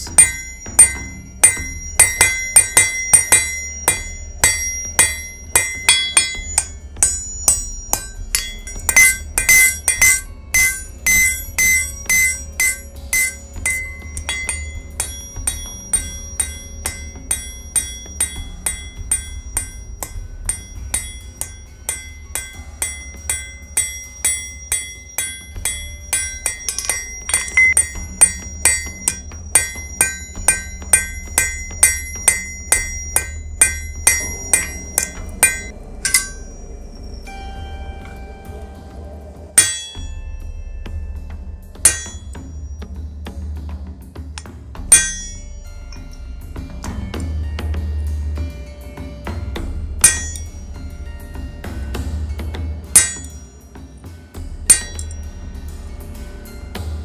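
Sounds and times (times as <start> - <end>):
hammer striking steel on anvil: 0.0 - 40.5, 41.7 - 43.4, 44.2 - 47.5, 49.2 - 50.8, 51.7 - 55.5
anvil ringing: 0.0 - 43.4, 44.3 - 47.6, 49.0 - 55.6.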